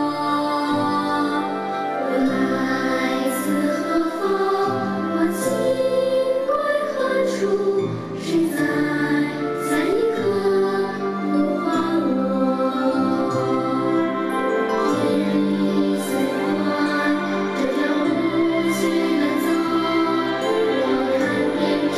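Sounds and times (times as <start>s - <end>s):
children's choir singing: 0.0s - 21.9s
musical accompaniment: 0.0s - 21.9s.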